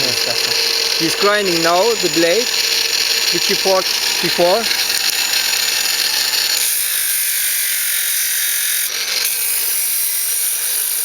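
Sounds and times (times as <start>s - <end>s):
power grinder grinding metal: 0.0s - 11.0s.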